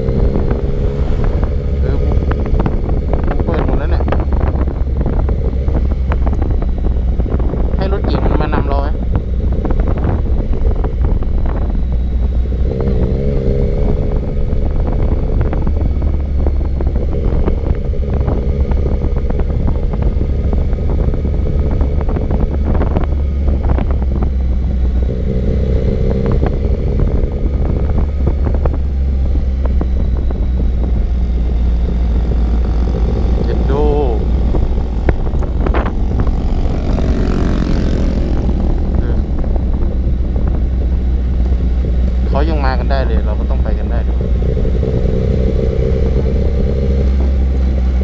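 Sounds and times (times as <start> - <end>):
motorcycle engine cruising: 0.0 - 48.0
wind noise on microphone: 0.0 - 48.0.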